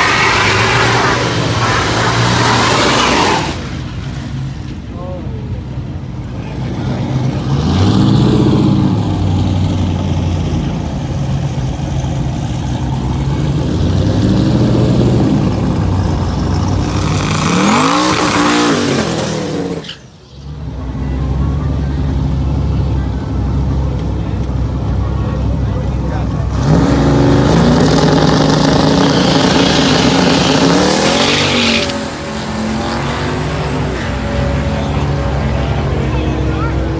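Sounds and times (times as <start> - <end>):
truck engines revving: 0.0 - 36.9.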